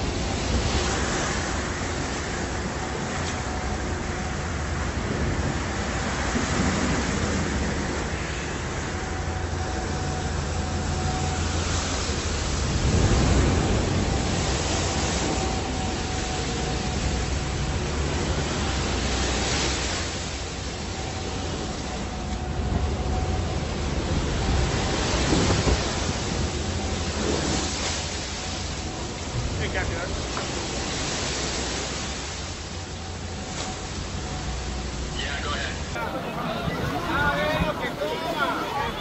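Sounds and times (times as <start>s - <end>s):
seawater surging across deck: 0.0s - 39.0s.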